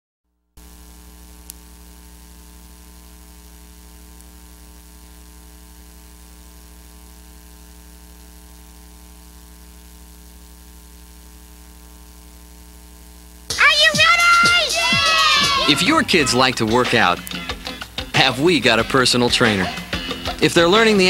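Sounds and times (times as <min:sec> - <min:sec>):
electrical mains hum: 0:00.6 - 0:21.0
tape hiss: 0:00.6 - 0:21.0.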